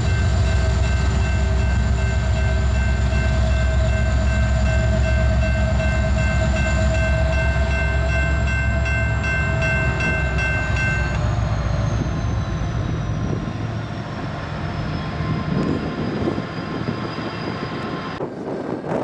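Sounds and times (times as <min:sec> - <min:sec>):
diesel locomotive rumble: 0:00.0 - 0:19.0
train cars rolling: 0:00.0 - 0:19.0.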